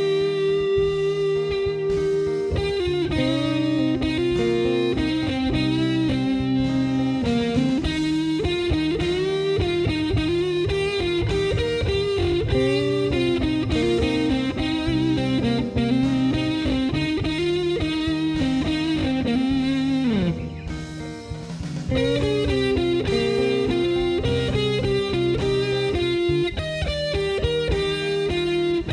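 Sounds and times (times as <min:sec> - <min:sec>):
electric guitar lead with bent notes: 0:00.0 - 0:28.9
steady low notes: 0:00.1 - 0:28.9.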